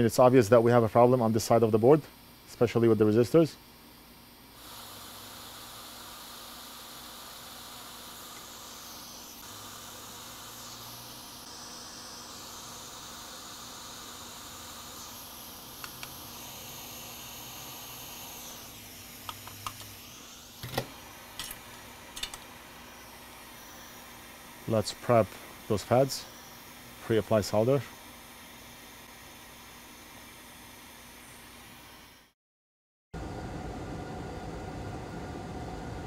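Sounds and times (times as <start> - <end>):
faint hiss: 0.0 - 32.3.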